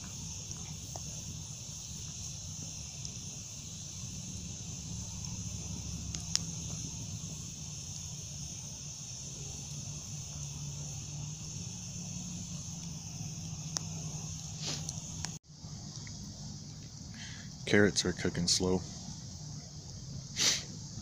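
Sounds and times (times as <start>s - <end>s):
campfire crackle: 0.0s - 21.0s
crickets chirping: 0.0s - 21.0s.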